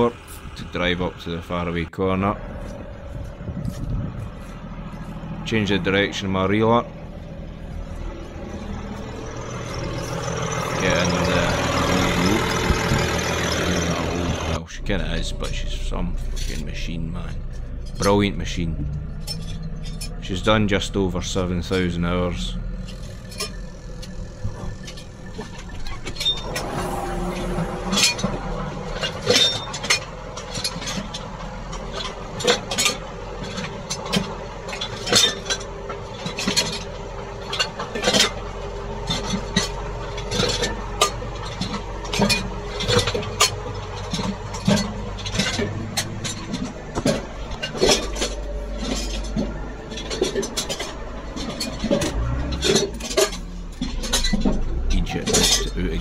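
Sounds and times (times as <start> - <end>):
tractor engine running: 0.0 - 56.0
cab fittings clinking and rattling: 5.9 - 14.6, 15.4 - 56.0.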